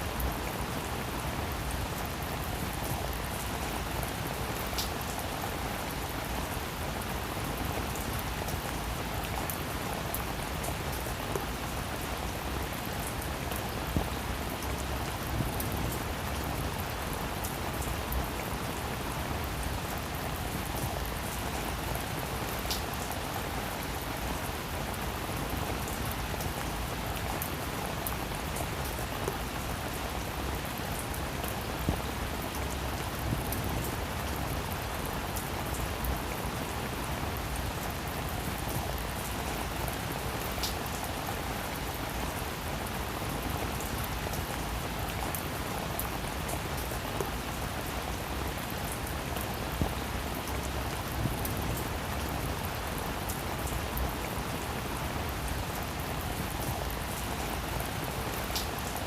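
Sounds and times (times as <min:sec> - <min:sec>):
rain pattering on a roof: 0:00.0 - 0:59.0.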